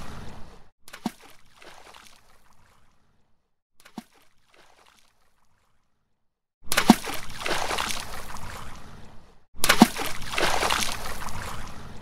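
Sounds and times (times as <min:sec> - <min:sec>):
water splashing: 0:00.0 - 0:02.8, 0:03.8 - 0:05.7, 0:06.7 - 0:12.0.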